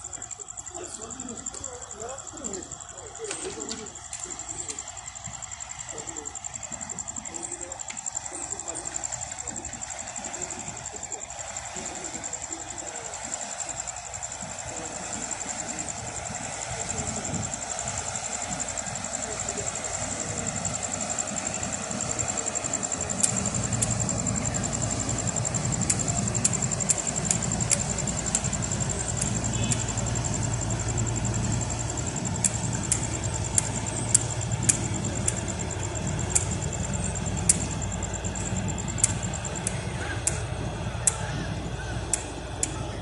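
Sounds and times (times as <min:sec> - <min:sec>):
boat engine humming: 0:00.0 - 0:43.0
faint high whine: 0:00.0 - 0:43.0
sharp clicks: 0:00.1 - 0:43.0.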